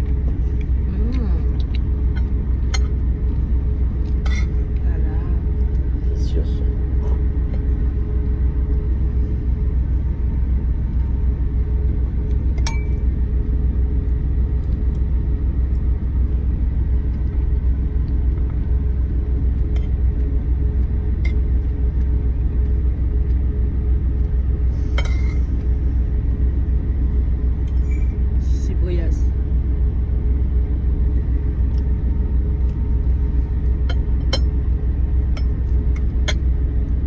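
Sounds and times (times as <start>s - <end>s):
truck engine rumble: 0.0s - 37.0s.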